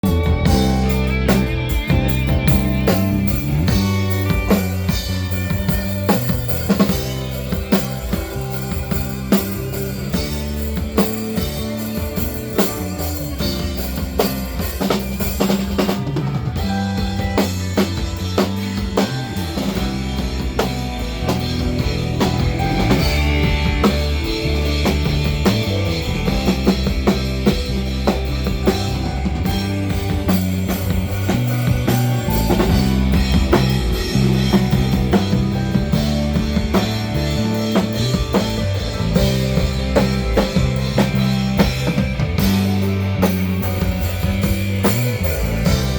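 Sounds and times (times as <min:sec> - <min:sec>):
drum kit hits: 0:00.0 - 0:45.9
live rock band playing: 0:00.0 - 0:45.9
sustained bass notes: 0:00.0 - 0:45.9.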